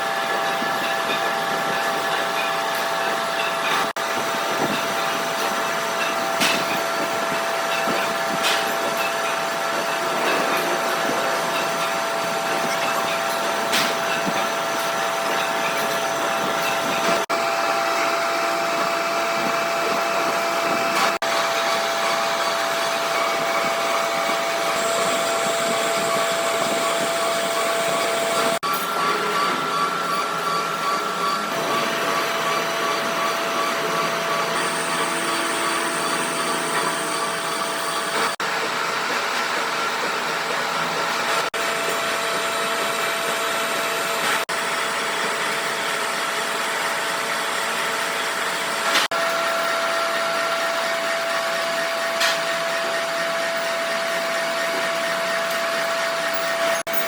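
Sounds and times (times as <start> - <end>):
workshop machinery whirring: 0.0 - 57.0.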